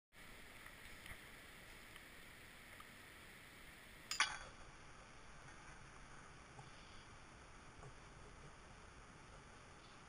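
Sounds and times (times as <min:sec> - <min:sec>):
faint outdoor hiss: 0:00.2 - 0:10.0.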